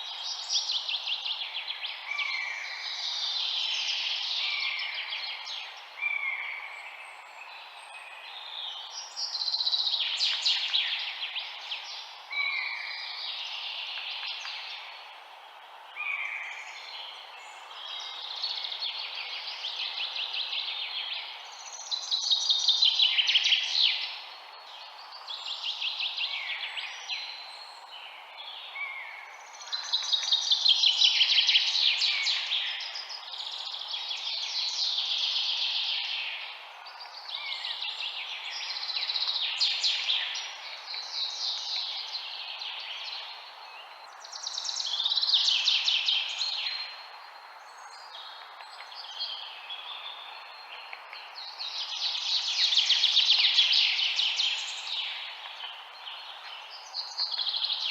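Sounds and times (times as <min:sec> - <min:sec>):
low background hiss: 0:00.0 - 0:57.9
songbirds singing trills: 0:00.0 - 0:57.9.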